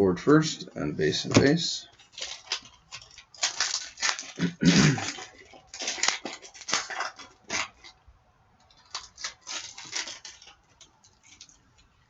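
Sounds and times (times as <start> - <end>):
foil wrapper crinkling: 1.2 - 8.0, 8.6 - 12.0.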